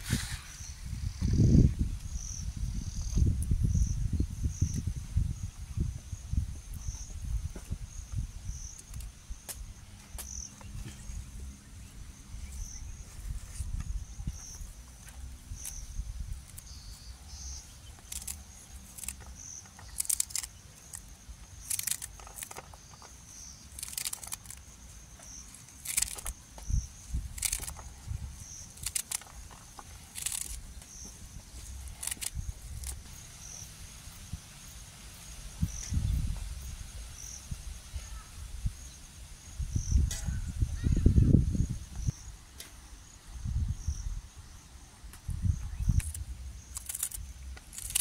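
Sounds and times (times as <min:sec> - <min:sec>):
hissy crackles: 0:00.0 - 0:40.8, 0:44.4 - 0:48.0.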